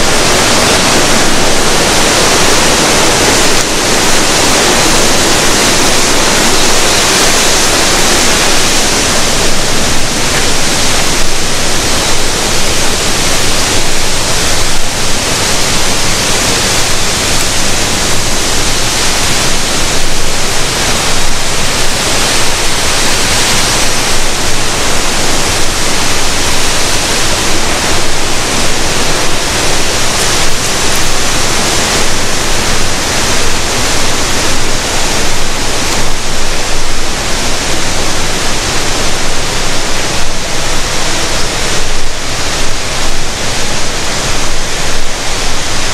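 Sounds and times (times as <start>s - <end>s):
rushing water: 0.0s - 45.9s.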